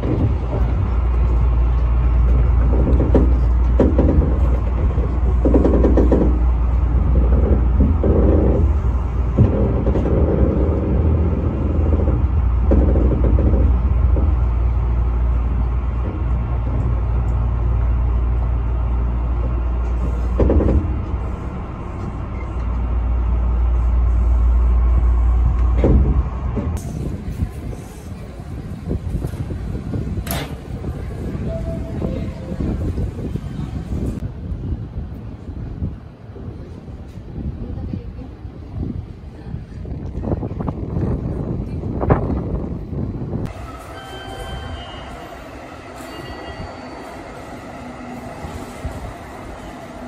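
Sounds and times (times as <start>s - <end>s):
electric train low rumble: 0.0s - 50.0s.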